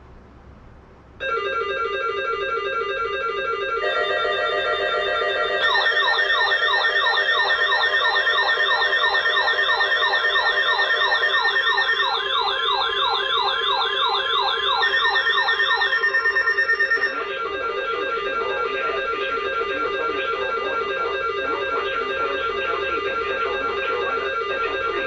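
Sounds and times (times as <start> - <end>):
electronic yelp siren: 1.2 - 25.0
steady electronic tones: 1.2 - 25.0.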